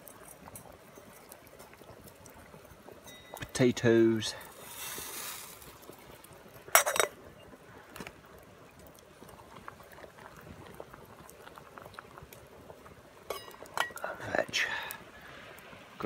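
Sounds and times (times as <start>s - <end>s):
pot of water bubbling: 0.0s - 16.0s.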